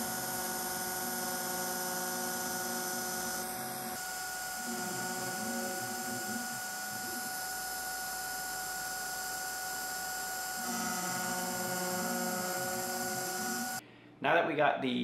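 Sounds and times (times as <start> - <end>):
spindle high whine: 0.0 - 13.9.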